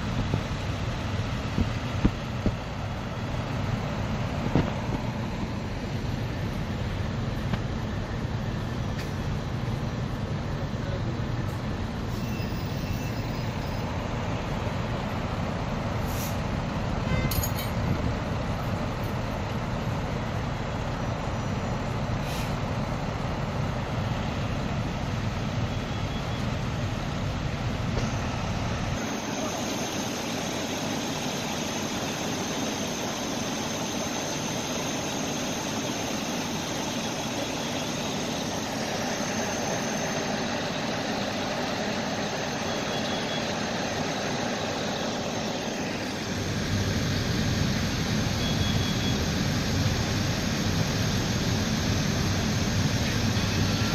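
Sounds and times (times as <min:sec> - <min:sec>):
fire truck engines idling: 0:00.0 - 0:53.9.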